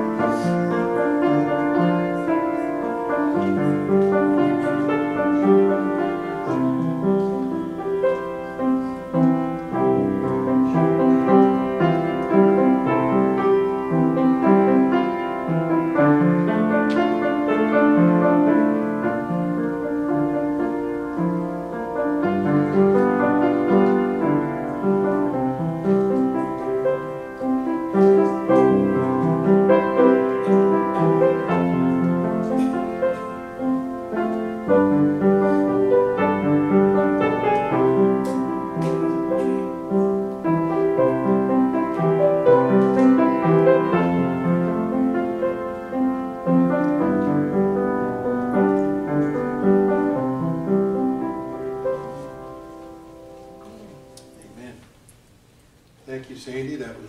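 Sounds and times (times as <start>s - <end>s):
solo piano playing chords: 0.0s - 54.8s.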